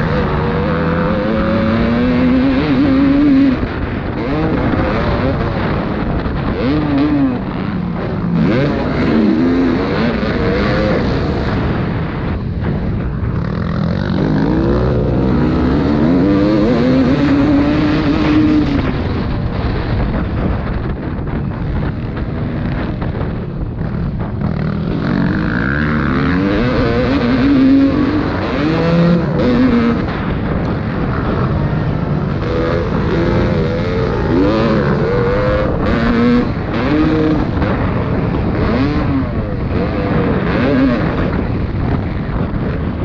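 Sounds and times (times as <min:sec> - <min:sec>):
motocross bikes revving: 0:00.0 - 0:43.0.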